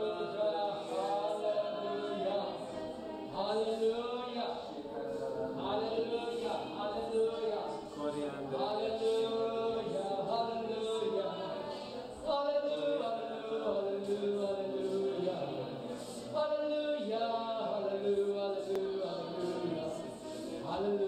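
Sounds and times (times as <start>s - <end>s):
voices singing chant-like worship: 0.0s - 21.0s.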